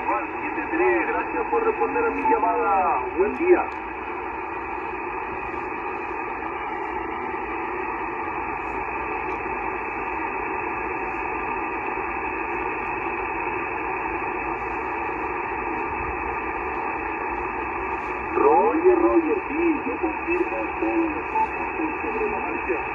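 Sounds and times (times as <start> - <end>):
radio receiver static hiss: 0.0 - 22.9.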